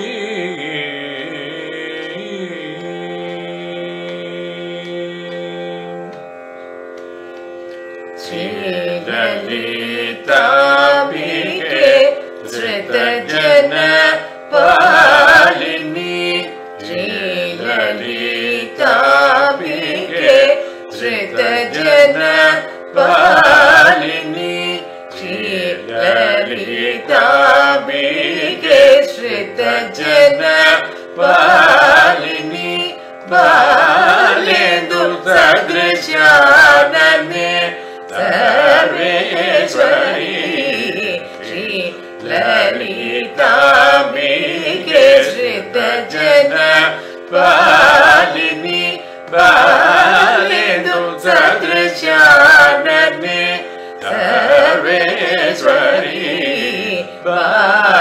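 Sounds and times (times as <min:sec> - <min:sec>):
person singing ornamented phrases: 0:08.2 - 0:58.0.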